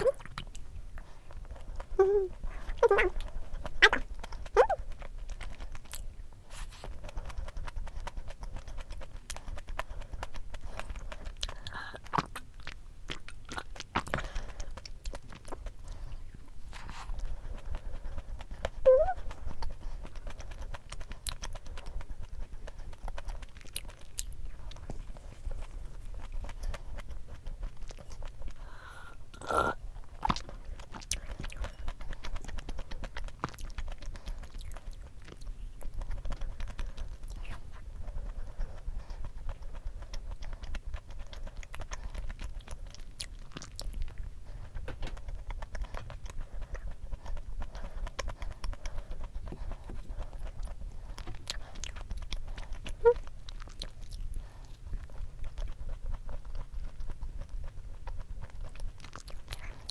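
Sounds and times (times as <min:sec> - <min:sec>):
chewing and biting cookie: 0:00.0 - 0:59.9.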